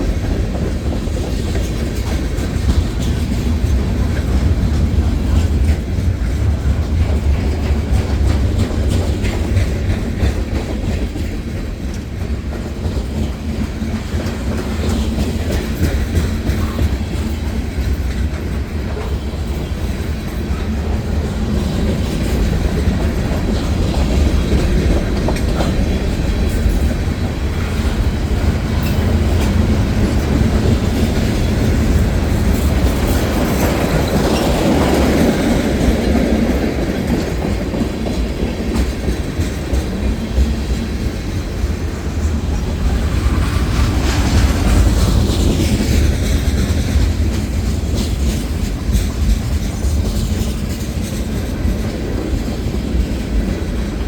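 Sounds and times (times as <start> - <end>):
freight train rumbling: 0.0 - 54.0
wheels clacking over rail joints: 0.0 - 54.0.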